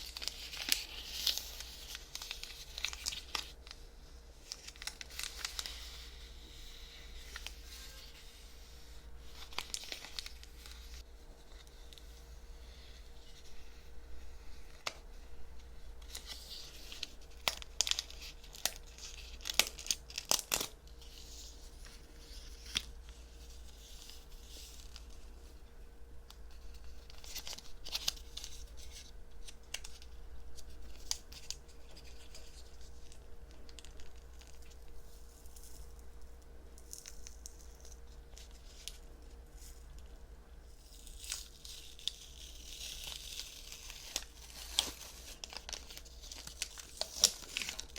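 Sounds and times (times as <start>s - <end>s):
wrapper tearing and crinkling: 0.0s - 3.8s, 4.4s - 8.2s, 9.2s - 11.7s, 16.0s - 25.2s, 26.5s - 47.9s.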